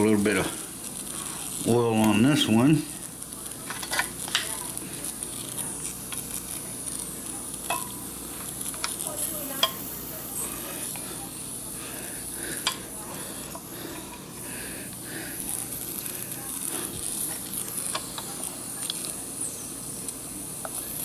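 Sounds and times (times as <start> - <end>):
steam engine sizzling hiss: 0.0 - 21.0.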